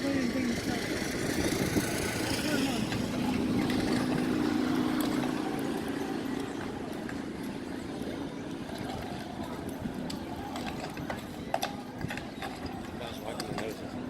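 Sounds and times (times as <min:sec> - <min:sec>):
steady engine hum: 0:00.0 - 0:13.0.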